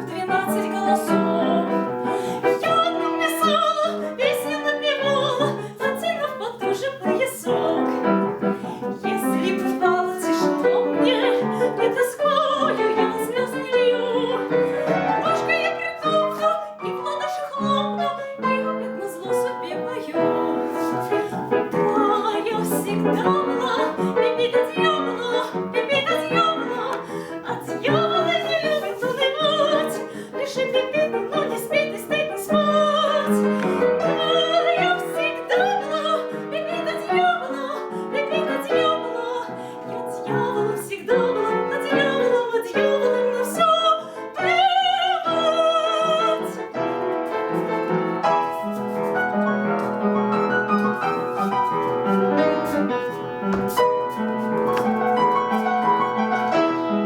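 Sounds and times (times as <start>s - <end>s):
woman singing operatically: 0.0s - 46.8s
piano accompaniment: 0.0s - 57.0s.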